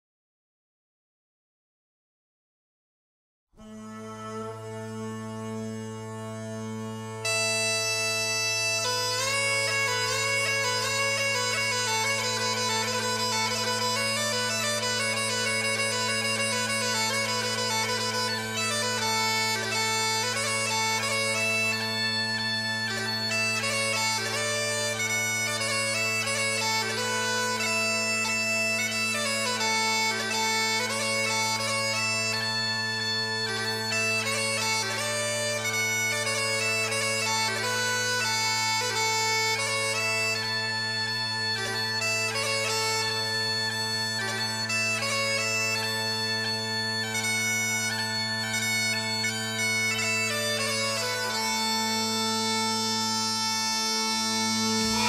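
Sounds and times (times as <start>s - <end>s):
bagpipe music: 3.6s - 55.0s.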